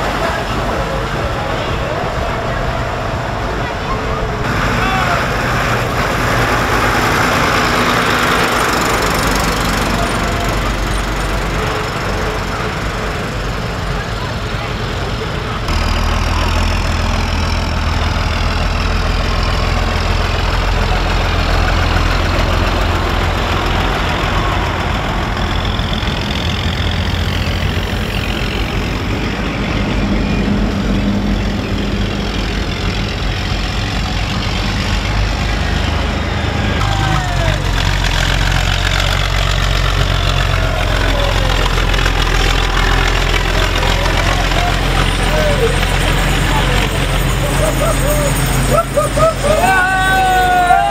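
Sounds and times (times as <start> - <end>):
tractor engines humming: 0.0 - 50.9.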